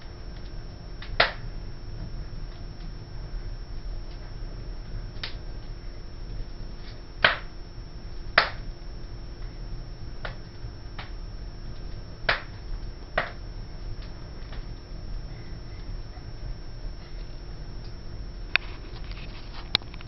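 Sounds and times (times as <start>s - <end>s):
fire crackling and popping: 0.0s - 20.0s
steady low hum: 0.0s - 20.0s.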